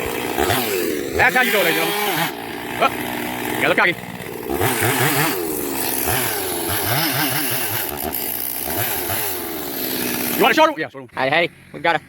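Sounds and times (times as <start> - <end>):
chainsaw revving: 0.0 - 12.0.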